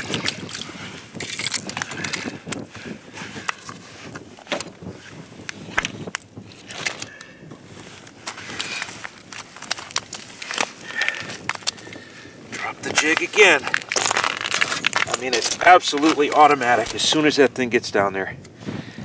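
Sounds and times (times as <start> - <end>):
clothing rustling: 1.8 - 17.3.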